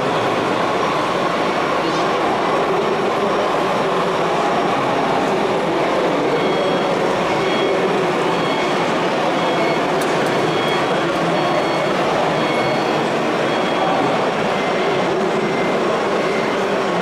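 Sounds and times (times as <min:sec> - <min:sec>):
busy exhibition hall din: 0:00.0 - 0:17.0.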